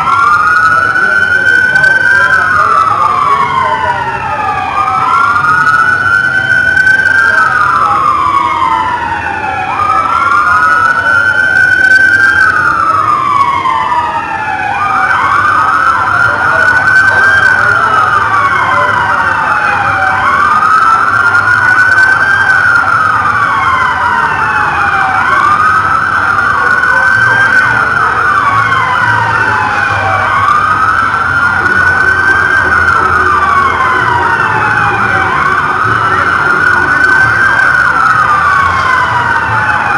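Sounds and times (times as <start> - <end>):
police siren wailing: 0.0 - 39.9
rapidly pulsing high tone: 0.0 - 39.9.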